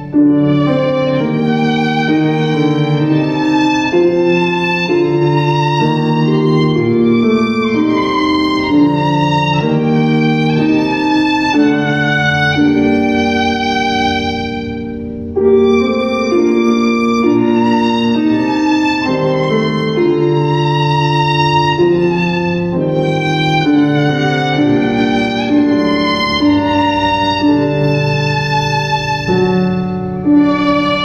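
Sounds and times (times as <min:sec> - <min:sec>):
violin melody background music: 0:00.0 - 0:31.0.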